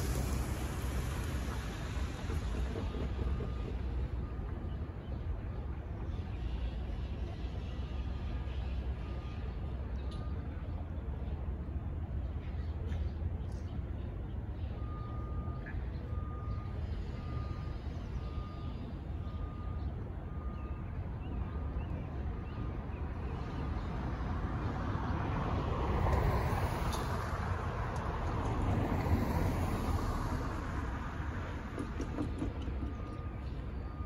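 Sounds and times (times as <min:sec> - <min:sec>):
cars driving over railroad crossing: 0:00.0 - 0:06.0, 0:08.8 - 0:34.0.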